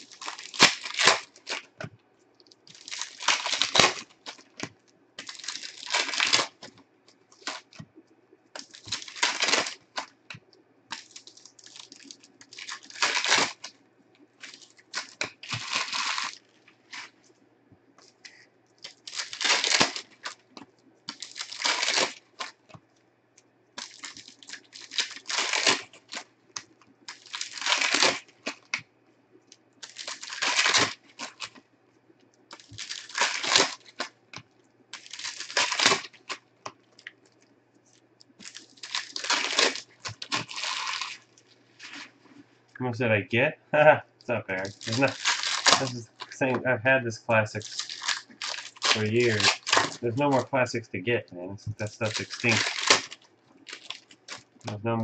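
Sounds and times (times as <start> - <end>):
plastic wrappers tearing and crinkling: 0.0 - 7.8, 8.6 - 17.2, 18.0 - 22.8, 23.8 - 28.8, 29.5 - 31.6, 32.5 - 42.4, 44.5 - 46.6, 47.5 - 50.5, 51.8 - 54.8.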